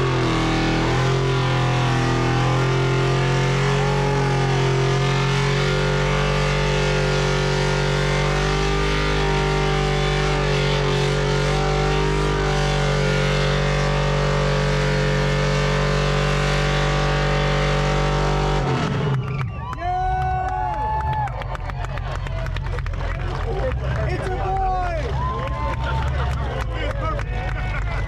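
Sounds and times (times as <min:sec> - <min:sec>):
truck engine at high revs: 0:00.0 - 0:28.0.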